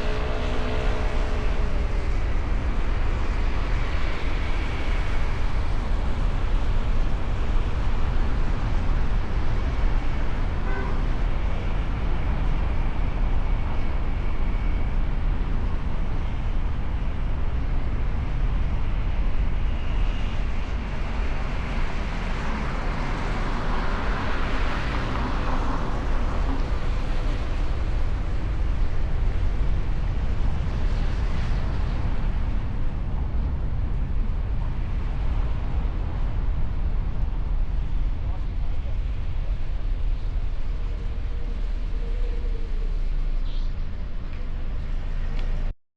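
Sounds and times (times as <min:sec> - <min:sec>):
road traffic rumble: 0:00.0 - 0:45.7.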